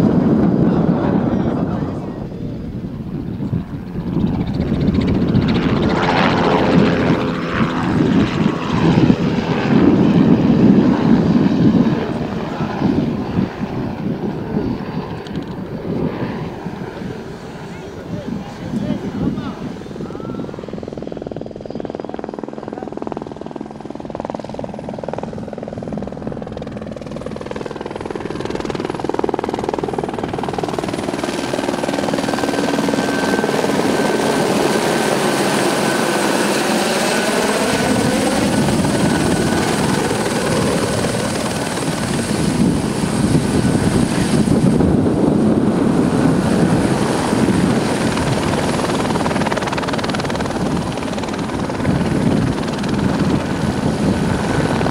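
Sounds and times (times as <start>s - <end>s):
distant helicopter: 0.0s - 54.9s
helicopter hovering close: 0.0s - 54.9s
turbine whine: 0.0s - 54.9s.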